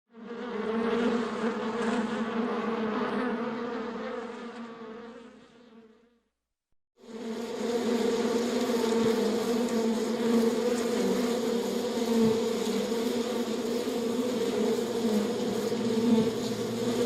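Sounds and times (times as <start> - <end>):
bees buzzing in a hive: 0.1 - 6.4, 7.0 - 17.0.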